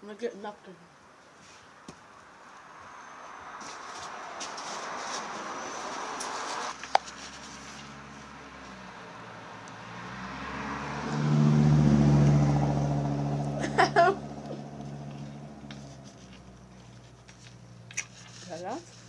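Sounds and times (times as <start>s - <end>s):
passing vehicle engine hum: 2.2s - 19.0s.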